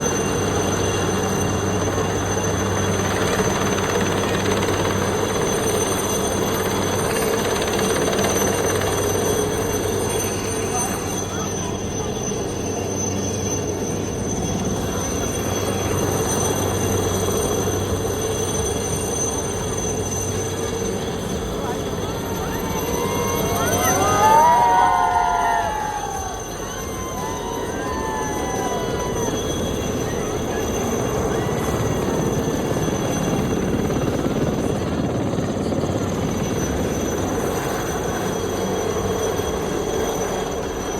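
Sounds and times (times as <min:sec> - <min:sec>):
aircraft engine roar: 0:00.0 - 0:40.9.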